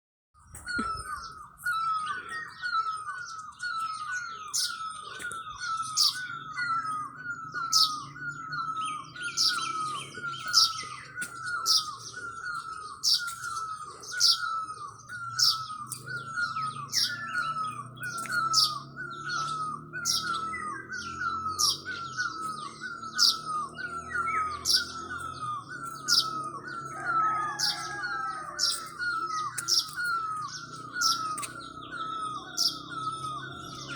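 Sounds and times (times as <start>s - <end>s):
high bird chirps: 0.4s - 33.9s.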